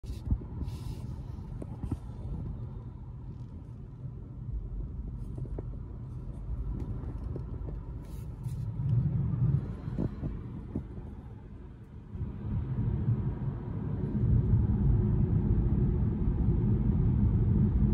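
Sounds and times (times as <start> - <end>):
car cabin road and engine rumble: 0.0 - 17.9.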